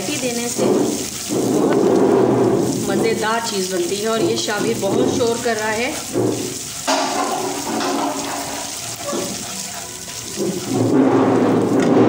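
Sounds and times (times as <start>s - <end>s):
paste sizzling in hot oil: 0.0s - 12.0s
wooden spoon stirring: 0.0s - 12.0s.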